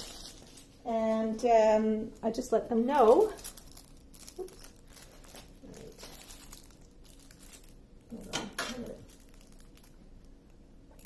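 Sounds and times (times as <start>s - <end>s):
plastic packaging crinkling: 0.0s - 1.2s, 2.2s - 11.0s.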